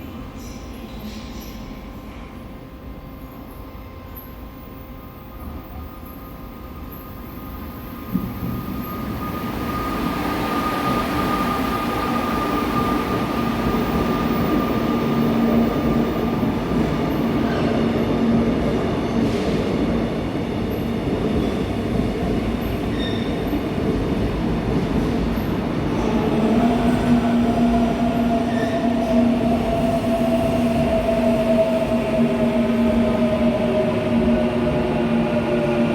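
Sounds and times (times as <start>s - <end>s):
electric train rumble: 1.4s - 35.9s.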